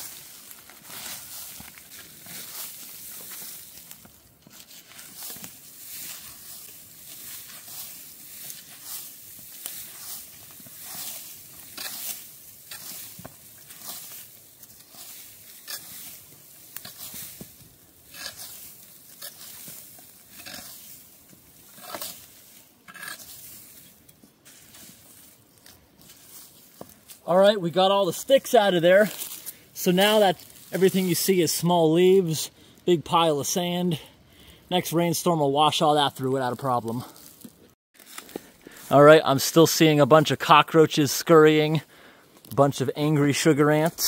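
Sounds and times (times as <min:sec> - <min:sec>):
rake scraping through dry leaves: 0:00.0 - 0:32.4, 0:36.1 - 0:41.8.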